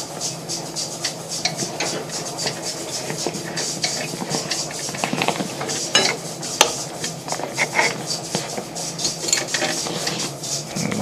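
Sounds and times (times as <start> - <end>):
low steady hum: 0.8 - 11.0.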